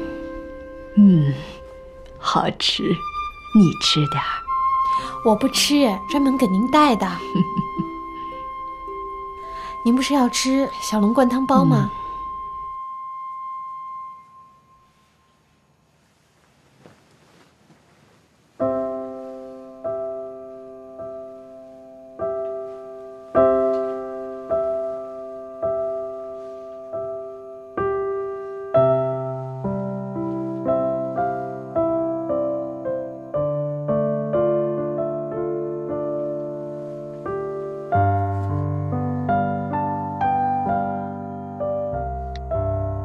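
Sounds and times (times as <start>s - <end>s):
slow piano music: 0.0s - 16.3s, 17.3s - 43.0s.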